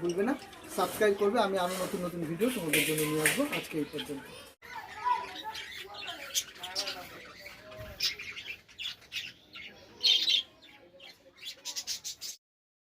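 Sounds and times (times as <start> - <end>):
budgerigars chattering and squawking: 0.0 - 12.4.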